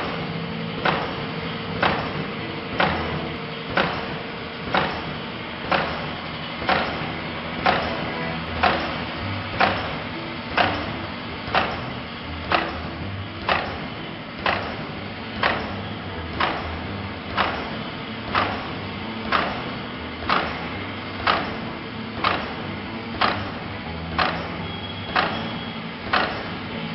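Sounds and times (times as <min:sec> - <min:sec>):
machine cutting head clacking: 0:00.0 - 0:26.9
machine running steadily: 0:00.0 - 0:26.9.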